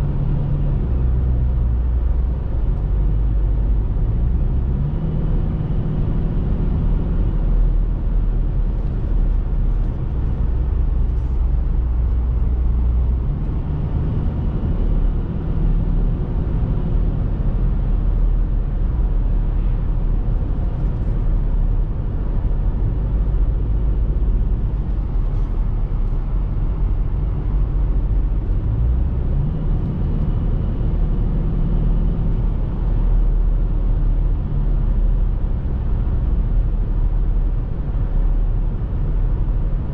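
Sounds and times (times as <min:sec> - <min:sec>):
diesel engine drone in cabin: 0:00.0 - 0:39.9
tyre and road noise: 0:00.0 - 0:39.9.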